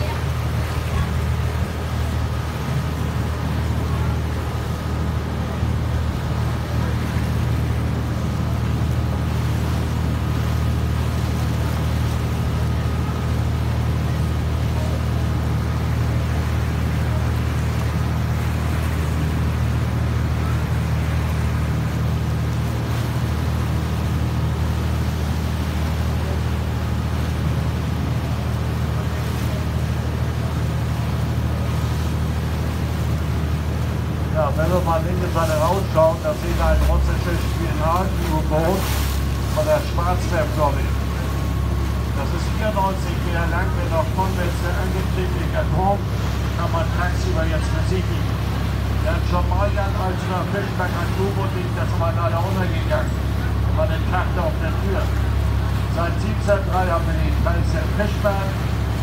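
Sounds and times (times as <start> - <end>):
boat engine droning: 0.0 - 59.0
choppy river water: 0.0 - 59.0.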